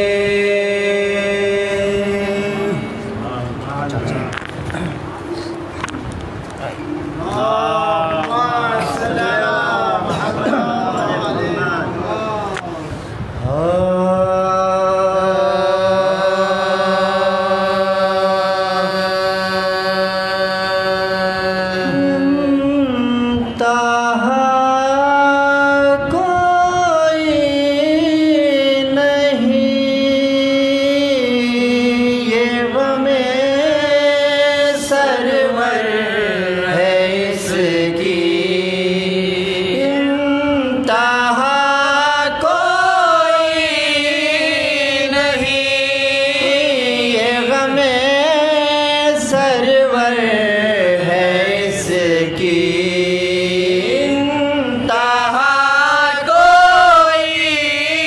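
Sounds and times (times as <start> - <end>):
male voices chanting a lament: 0.0 - 5.6, 6.6 - 58.0.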